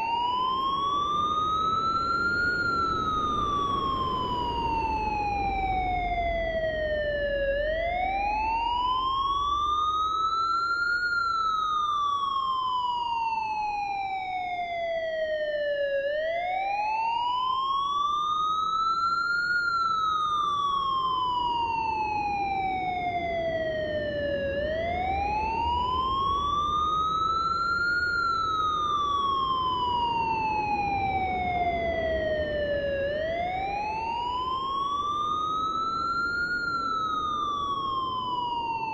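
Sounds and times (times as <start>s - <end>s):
siren wailing: 0.0s - 38.9s.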